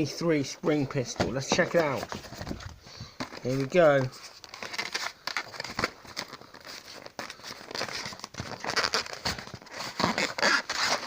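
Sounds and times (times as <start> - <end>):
packaging crinkling: 1.7 - 11.0.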